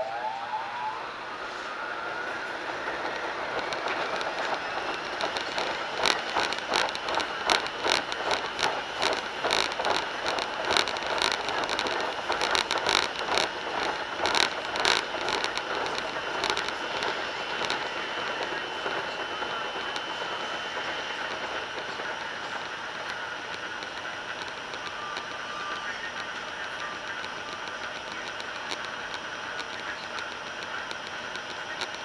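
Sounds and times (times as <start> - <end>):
washing machine whirring: 0.0 - 32.0.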